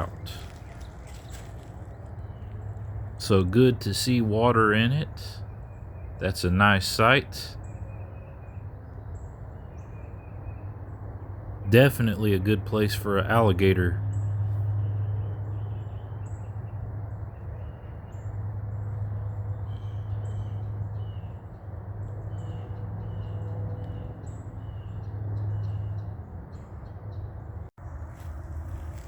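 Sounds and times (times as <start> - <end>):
wild birds chirping: 0.0 - 29.0.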